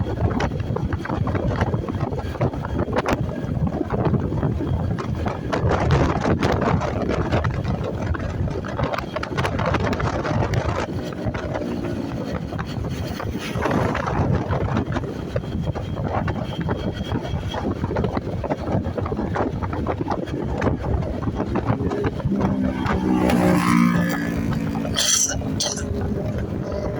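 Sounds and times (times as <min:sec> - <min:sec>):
motorcycle running noise: 0:00.0 - 0:26.9
wind buffeting microphone: 0:00.0 - 0:26.9.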